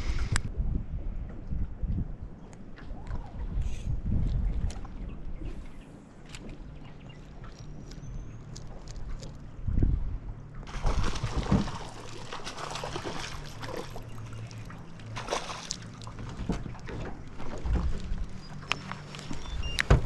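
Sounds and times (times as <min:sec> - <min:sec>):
water sloshing around boat: 0:01.2 - 0:20.0.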